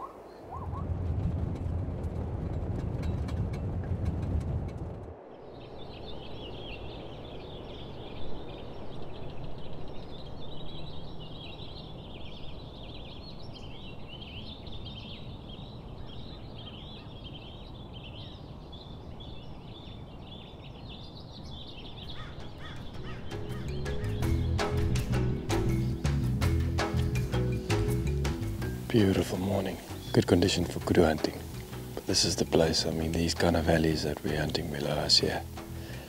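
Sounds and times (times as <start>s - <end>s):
birds chirping: 0.0s - 0.9s, 5.2s - 36.0s.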